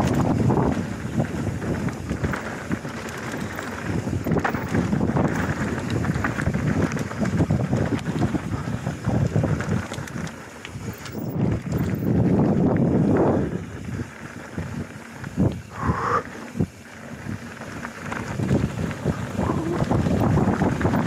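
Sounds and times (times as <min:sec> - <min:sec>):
bike rattling and knocking: 0:00.0 - 0:21.0
tyres on dirt: 0:00.0 - 0:21.0
wind rushing over microphone: 0:00.0 - 0:21.0.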